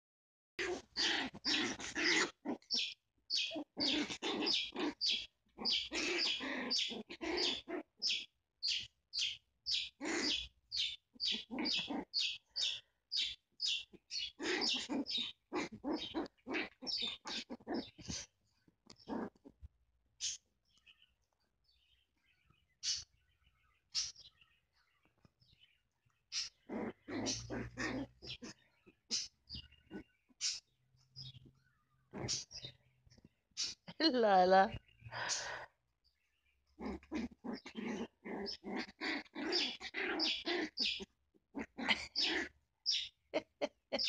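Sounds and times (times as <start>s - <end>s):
small dogs yapping and barking: 0.6s - 21.0s, 26.3s - 34.0s, 36.7s - 44.0s.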